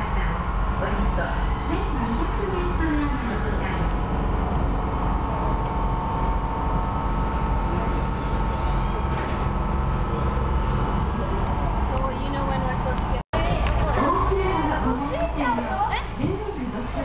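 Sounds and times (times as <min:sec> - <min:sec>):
boat engine drone: 0:00.0 - 0:17.0
faint steady whine: 0:00.0 - 0:17.0.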